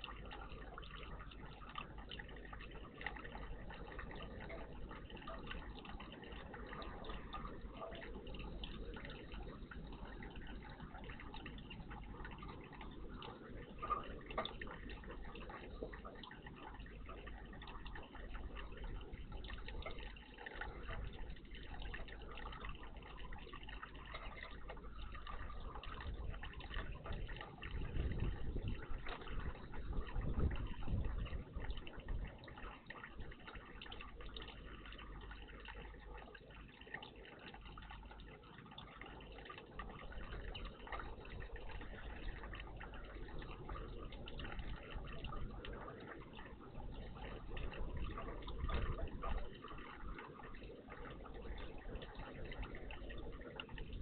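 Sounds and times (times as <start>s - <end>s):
water dripping and trickling: 0.0s - 54.0s.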